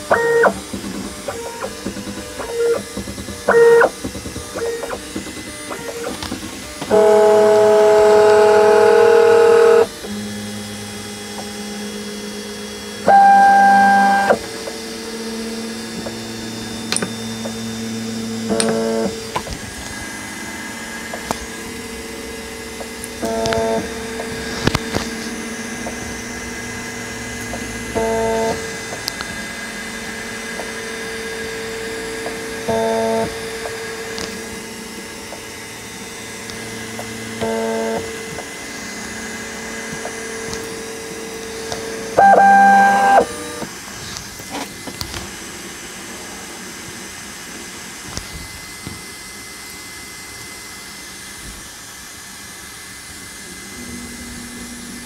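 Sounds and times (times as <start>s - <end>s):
stepper motors whining: 0.0s - 55.0s.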